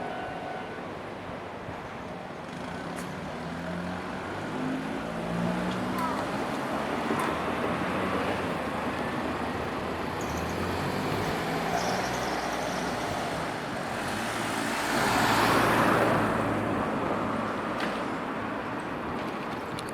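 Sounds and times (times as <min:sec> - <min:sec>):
road traffic: 0:00.0 - 0:19.9.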